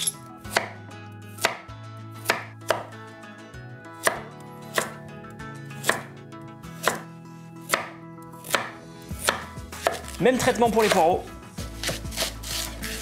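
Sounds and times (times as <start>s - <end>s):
knife chopping carrots on wood: 0.4s - 3.0s, 4.0s - 5.0s, 5.8s - 13.0s.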